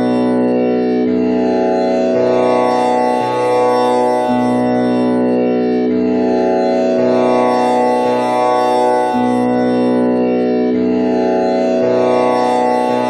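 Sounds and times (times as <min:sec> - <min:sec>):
tanpura buzzing drone: 0:00.0 - 0:13.0.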